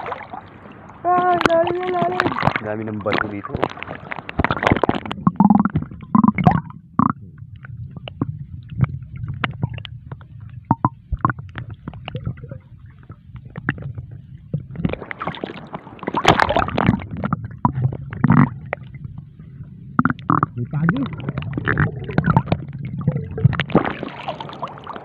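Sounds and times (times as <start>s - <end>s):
churning bubbling water: 0.0s - 25.0s
low underwater rumble: 0.0s - 25.0s.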